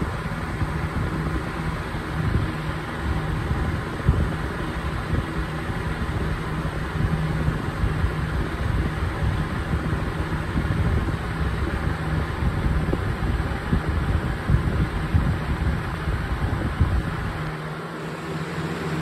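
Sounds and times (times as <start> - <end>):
box fan running: 0.0 - 19.0.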